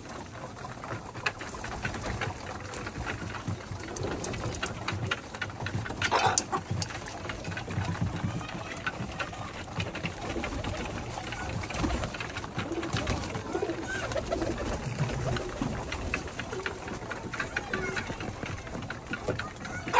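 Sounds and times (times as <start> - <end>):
pigeons cooing: 0.0 - 19.9
wing flutters: 0.0 - 19.9.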